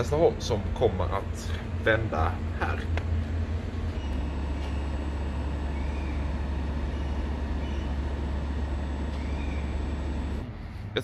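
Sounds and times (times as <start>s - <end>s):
train equipment humming: 0.0s - 11.0s.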